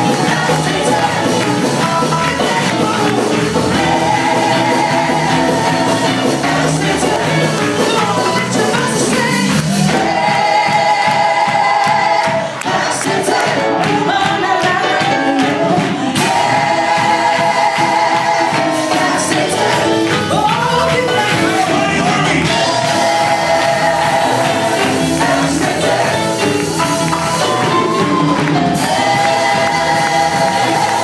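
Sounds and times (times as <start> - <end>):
keyboard and band: 0.0 - 31.0
worship team singing: 0.0 - 31.0.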